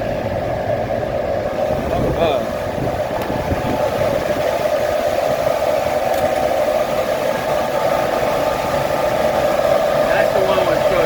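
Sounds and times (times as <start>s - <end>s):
cooling fans rushing air: 0.0s - 11.0s.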